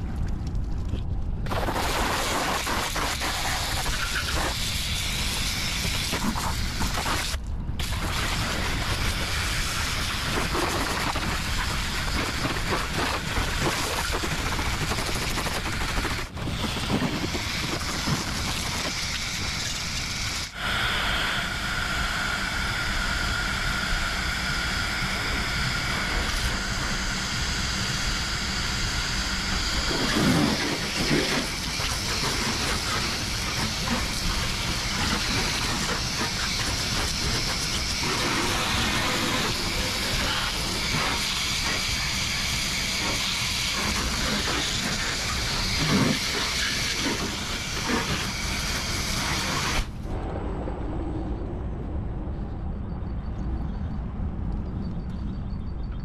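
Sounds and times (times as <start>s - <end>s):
steady whine: 0.0s - 56.0s
pressure washer jet hissing: 1.5s - 49.9s.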